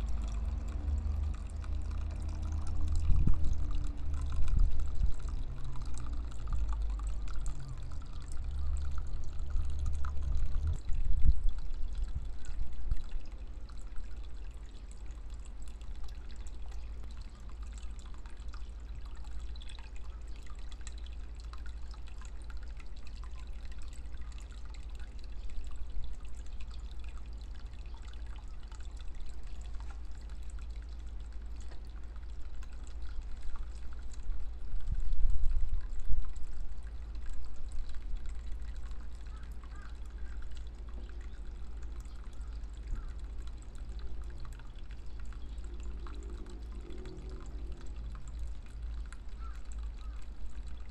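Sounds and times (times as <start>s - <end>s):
water trickling into pond: 0.0s - 50.9s.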